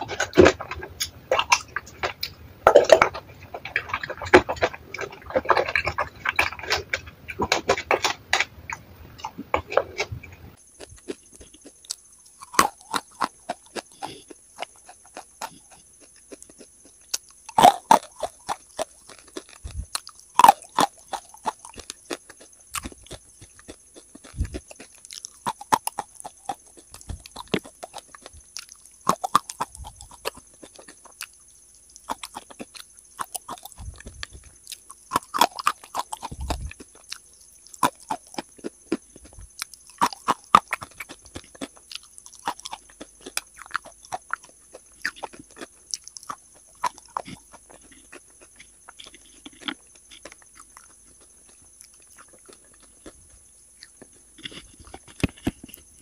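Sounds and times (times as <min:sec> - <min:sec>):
chewing and crunching chalk: 0:00.0 - 0:56.0.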